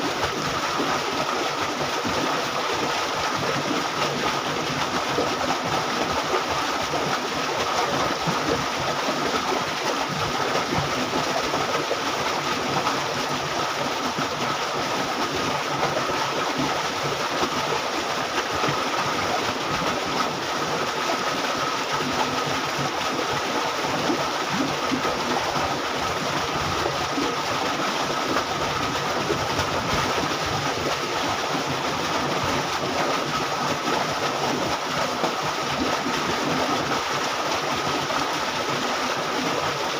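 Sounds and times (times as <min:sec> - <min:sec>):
water rushing down canal: 0:00.0 - 0:39.9.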